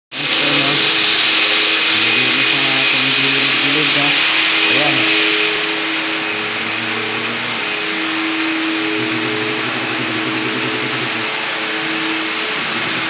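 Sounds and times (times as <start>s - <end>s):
floor polisher motor hum: 0.1s - 13.0s
rushing hiss: 0.1s - 13.0s.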